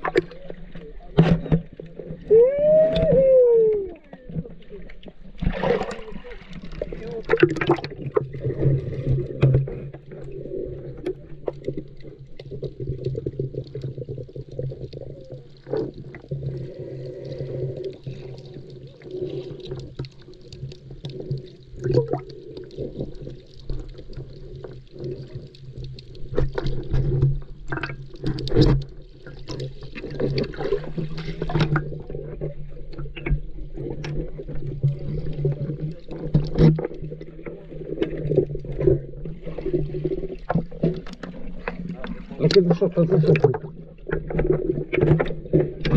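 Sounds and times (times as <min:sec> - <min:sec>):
water sloshing underwater: 0:00.0 - 0:45.9.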